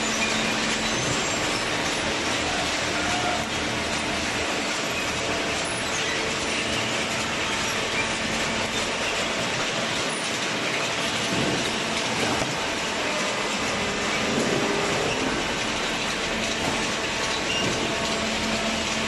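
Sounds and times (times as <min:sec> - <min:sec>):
baler mechanical rattle: 0:00.0 - 0:19.0.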